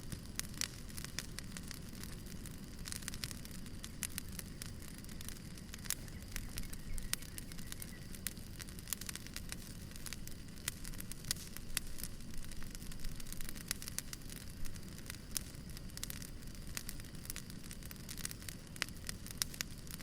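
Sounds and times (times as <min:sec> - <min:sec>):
steady low rumble: 0:00.0 - 0:19.6
firewood crackling and popping: 0:00.0 - 0:20.0.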